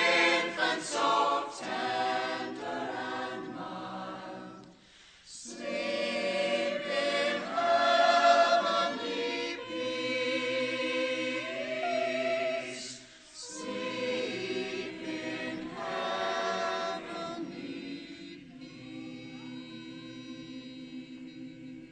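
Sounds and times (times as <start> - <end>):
choir singing: 0.0 - 21.9.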